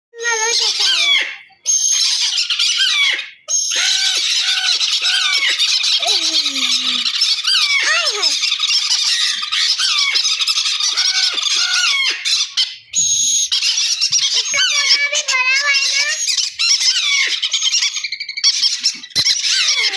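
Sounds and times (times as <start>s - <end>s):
parrots chattering and squawking: 0.2s - 19.9s.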